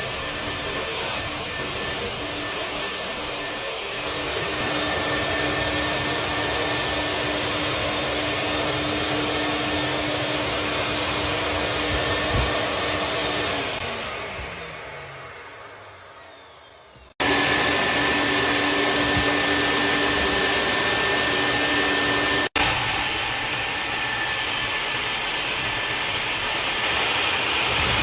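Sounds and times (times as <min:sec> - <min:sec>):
vacuum motor humming: 0:00.0 - 0:28.0.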